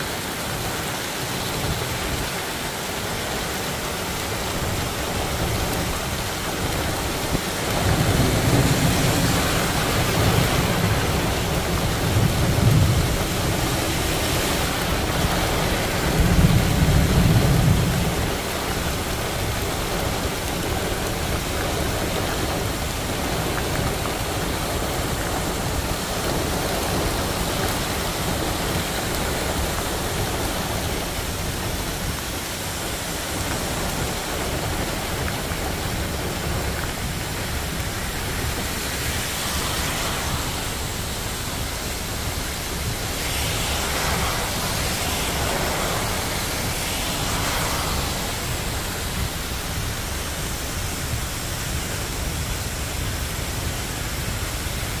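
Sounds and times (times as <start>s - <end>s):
heavy rain rushing: 0.0s - 55.0s.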